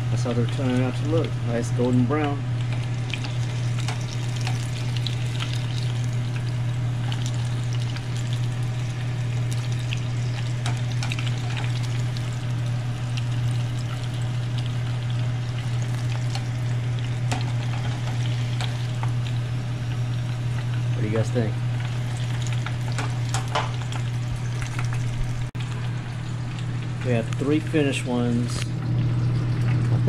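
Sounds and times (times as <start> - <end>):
oil sizzling with pops: 0.0 - 30.0
steady low hum: 0.0 - 30.0.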